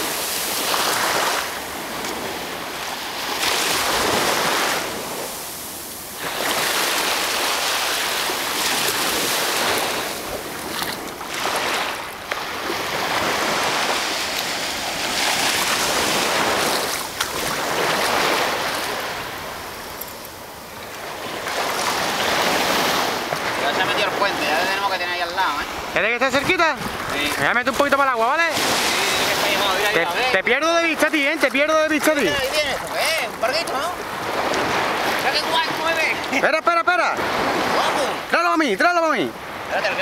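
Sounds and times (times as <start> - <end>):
small waves washing in shallows: 0.0 - 40.0.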